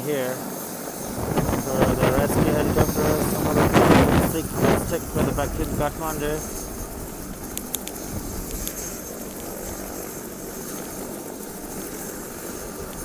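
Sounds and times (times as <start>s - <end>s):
faint high whine: 0.0s - 13.0s
helicopter engine and rotor: 0.4s - 13.0s.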